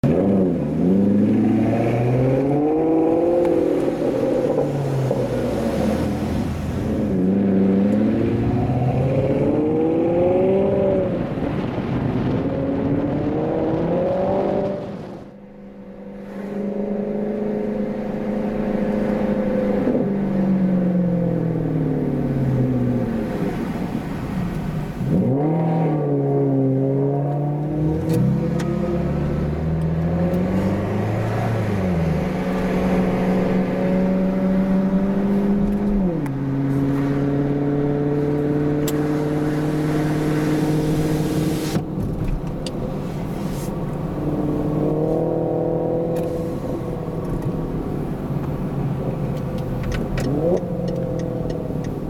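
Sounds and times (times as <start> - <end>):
car exhaust accelerating: 0.0 - 52.0.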